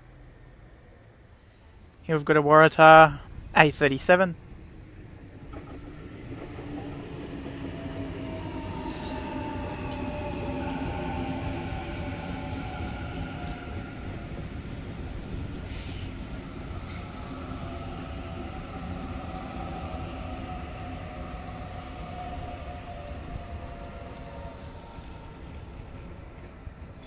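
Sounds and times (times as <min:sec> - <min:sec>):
train wheels rumbling on rail: 0:03.0 - 0:27.0
train motor whine: 0:05.0 - 0:27.0.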